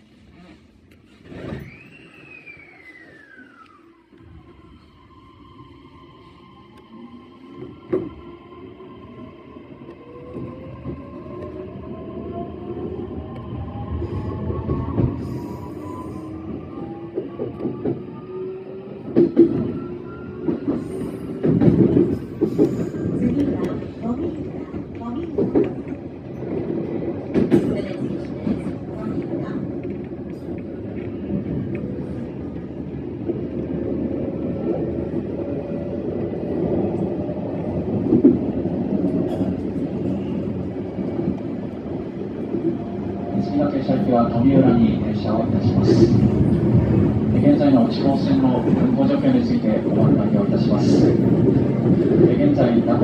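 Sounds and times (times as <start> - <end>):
train wheels rumbling on track: 6.2 - 53.0.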